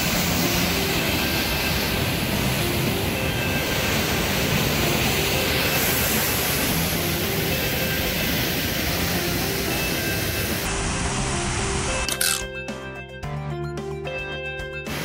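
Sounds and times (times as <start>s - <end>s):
waterfall roaring: 0.0s - 12.4s.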